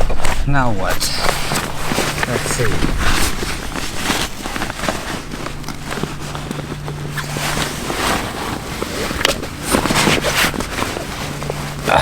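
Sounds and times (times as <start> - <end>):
fabric rustling: 0.0 - 12.0
steady low hum: 0.0 - 12.0.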